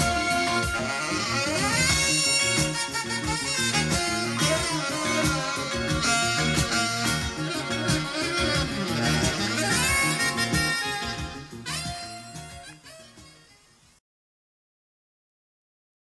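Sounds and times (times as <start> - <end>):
instrumental music with guitar: 0.0 - 13.4.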